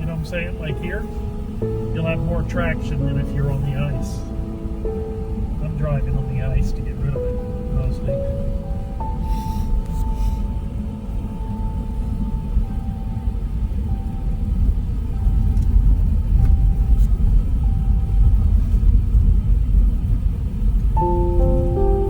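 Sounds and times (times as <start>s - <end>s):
car driving on snowy road: 0.0s - 22.0s.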